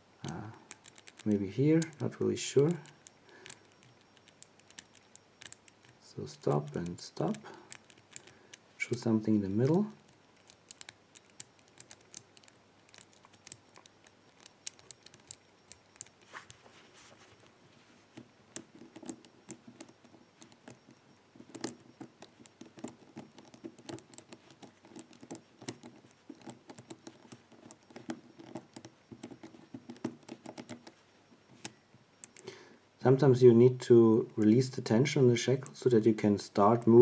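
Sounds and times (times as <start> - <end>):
padlock wheels clicking: 0.2 - 16.7, 17.4 - 32.5, 33.8 - 37.0.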